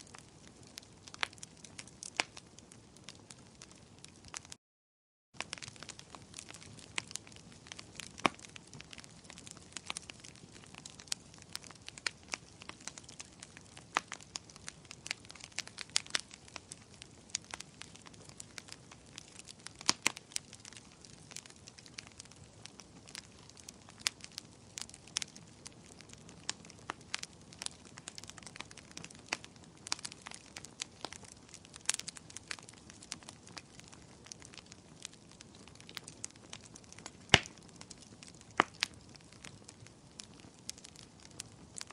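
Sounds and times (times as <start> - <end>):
wood fire crackling and popping: 0.0 - 4.6, 5.4 - 41.9.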